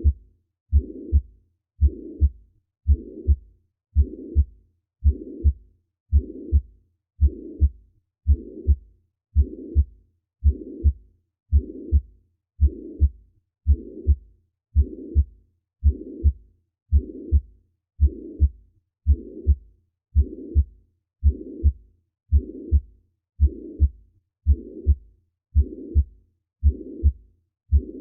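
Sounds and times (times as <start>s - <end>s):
heartbeat thumps: 0.0s - 3.4s, 4.0s - 8.8s, 9.4s - 14.2s, 14.8s - 19.6s, 20.2s - 25.0s, 25.6s - 28.0s.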